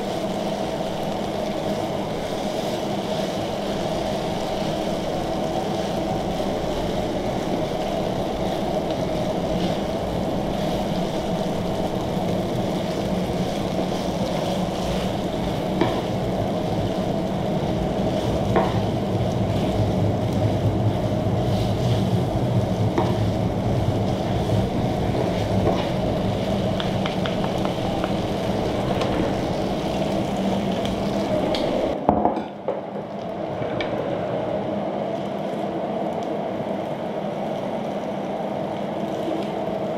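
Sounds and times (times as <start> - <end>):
food sizzling on griddle: 0.0 - 32.0, 36.3 - 39.9
steady hum: 0.0 - 39.9.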